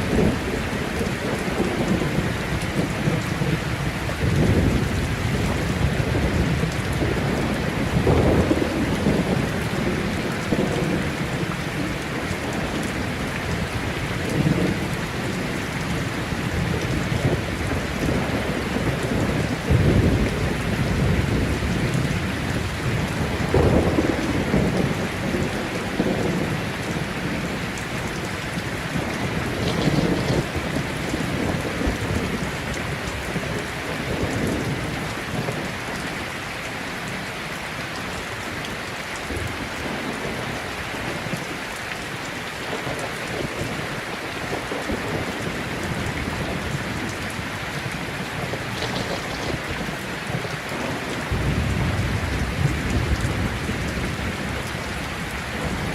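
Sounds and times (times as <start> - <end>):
thunder rumbling: 0.0 - 36.1, 42.6 - 55.9
heavy rain falling: 0.0 - 55.9.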